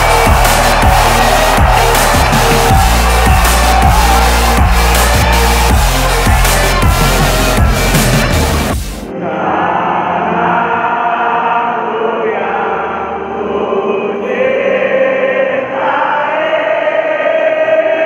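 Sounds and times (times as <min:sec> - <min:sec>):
crowd singing in unison: 0:00.0 - 0:08.4, 0:09.1 - 0:18.0.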